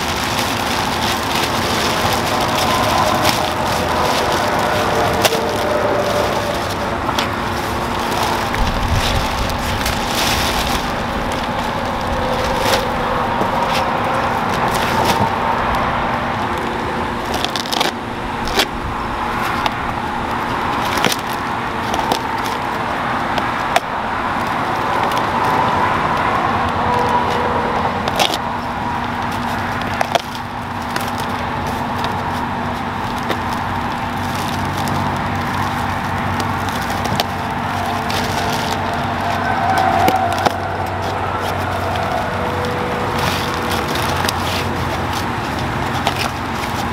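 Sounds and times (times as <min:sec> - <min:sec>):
packing foam rustling: 0:00.0 - 0:46.9
plastic bags crinkling: 0:00.0 - 0:46.9
steady background hum: 0:00.0 - 0:46.9.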